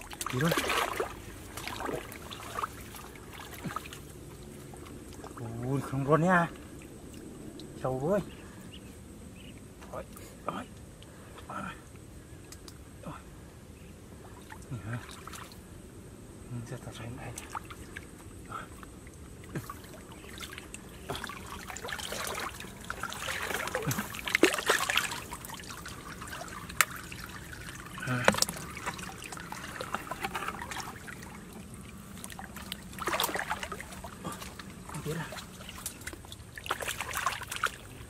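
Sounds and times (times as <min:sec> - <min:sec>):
river water splashing: 0:00.0 - 0:08.6, 0:14.1 - 0:15.7, 0:17.2 - 0:38.0.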